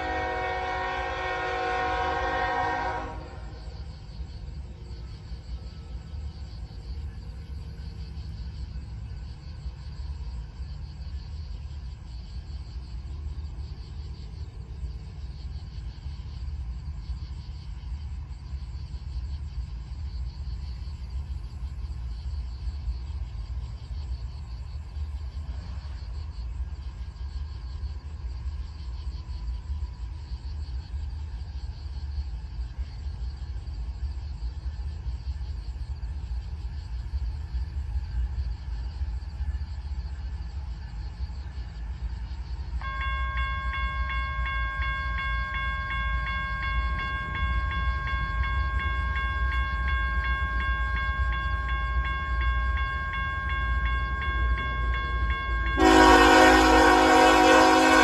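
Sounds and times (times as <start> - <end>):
crickets chirping: 0.0 - 58.0
diesel locomotive rumbling: 0.0 - 58.0.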